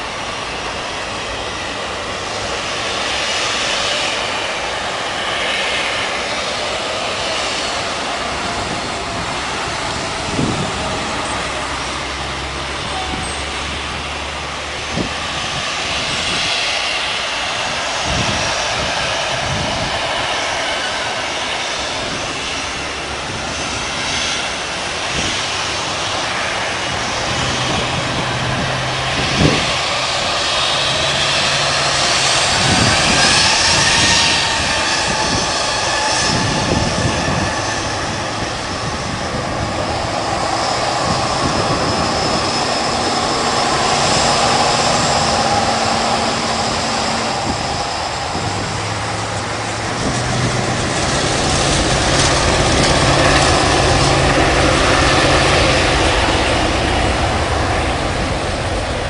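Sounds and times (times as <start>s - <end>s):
jet engines running: 0.0s - 59.0s
rising jet whine: 0.0s - 59.0s
road traffic: 0.0s - 59.0s.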